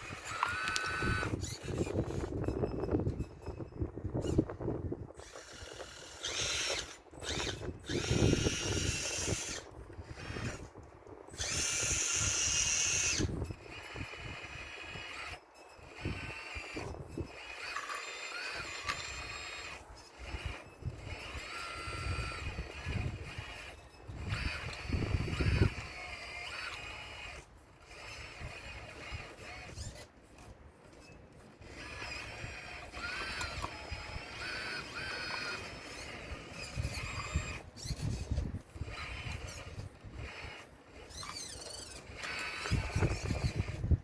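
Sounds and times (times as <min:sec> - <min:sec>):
model excavator motors whining: 0:00.0 - 0:44.0.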